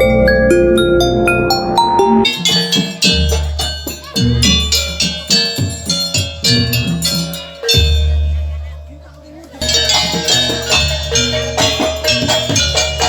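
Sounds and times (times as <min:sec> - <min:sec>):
gamelan percussion music: 0:00.0 - 0:13.0.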